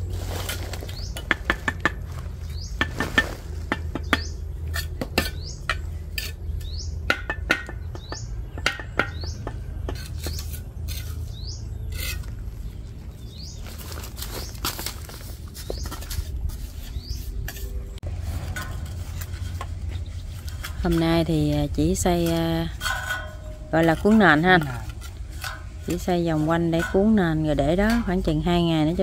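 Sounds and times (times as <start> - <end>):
trowel tapping and scraping bricks: 0.4 - 12.4, 14.6 - 29.0.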